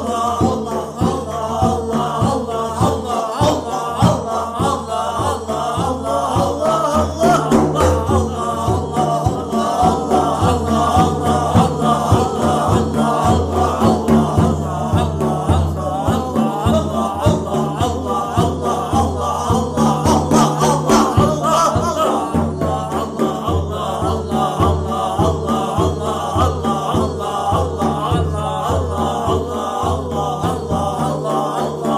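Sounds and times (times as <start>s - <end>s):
group of voices chanting: 0.0s - 31.9s
music: 0.0s - 31.9s.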